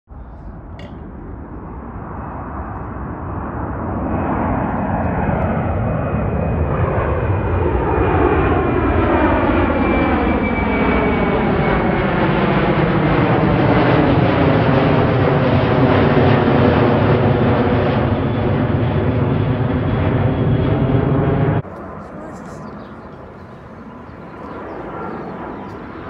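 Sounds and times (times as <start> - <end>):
jet engine noise: 0.1 - 26.0.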